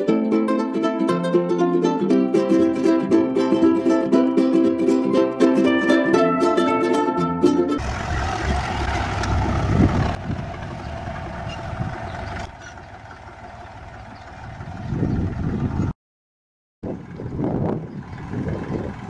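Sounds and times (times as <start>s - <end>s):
tractor diesel engine running: 1.4s - 15.9s, 16.8s - 19.0s.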